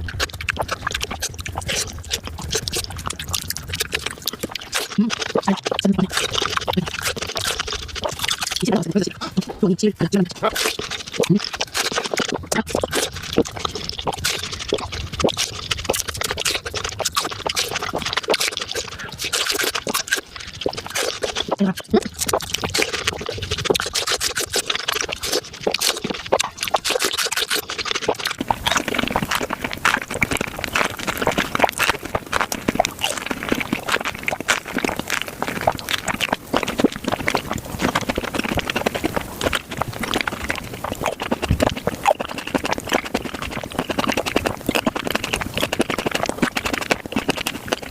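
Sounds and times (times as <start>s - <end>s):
fruit crunching: 0.0s - 47.9s
wet chewing: 0.0s - 47.9s.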